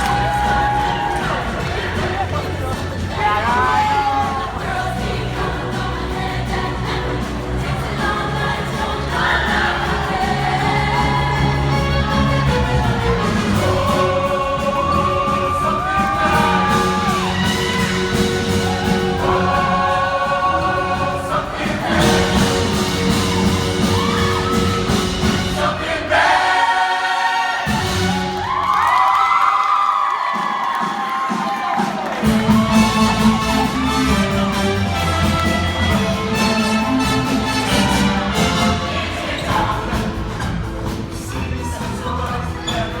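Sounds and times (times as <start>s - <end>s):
group of singers: 0.0s - 28.5s, 32.0s - 43.0s
music: 0.0s - 43.0s.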